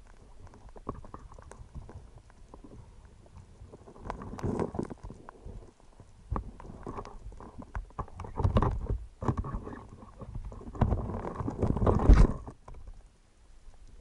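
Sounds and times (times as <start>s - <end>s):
underwater stones knocking and scraping: 0.0s - 13.1s.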